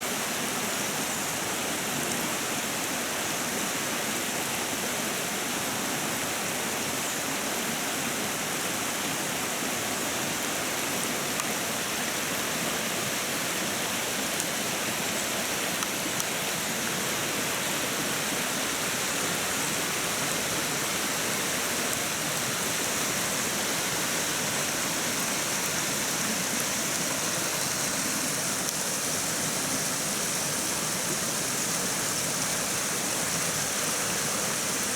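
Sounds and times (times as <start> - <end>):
river rushing: 0.0 - 34.9
rain hissing on water: 0.1 - 34.9.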